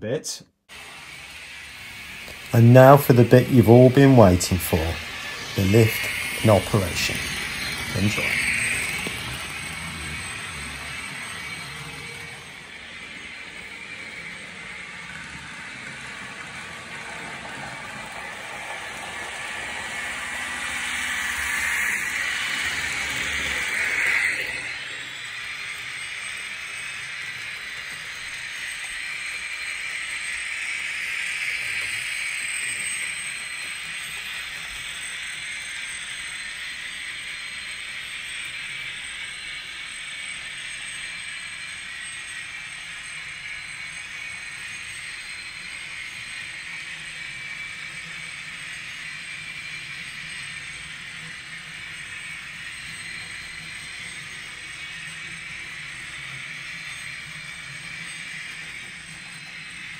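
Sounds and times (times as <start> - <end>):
model train motor whirring: 0.7 - 59.9.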